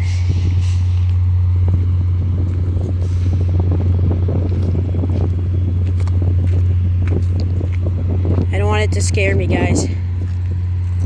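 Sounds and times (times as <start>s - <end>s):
diesel locomotive idling: 0.0s - 11.0s.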